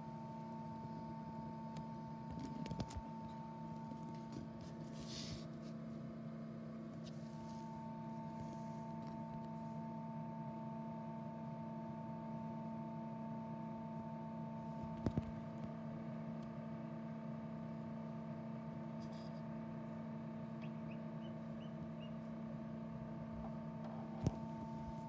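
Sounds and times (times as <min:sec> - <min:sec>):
incubator motor hum: 0:00.0 - 0:25.0.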